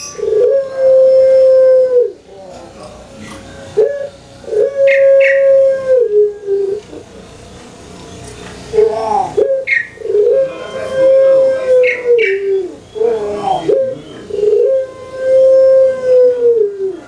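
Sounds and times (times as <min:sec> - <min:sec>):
dove cooing: 0:00.0 - 0:07.1, 0:08.6 - 0:17.0.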